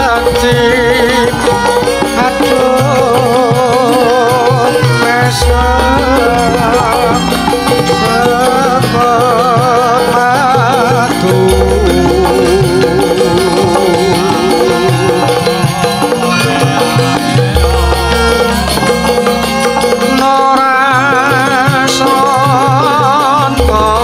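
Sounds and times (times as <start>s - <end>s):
gamelan music: 0.0s - 24.0s.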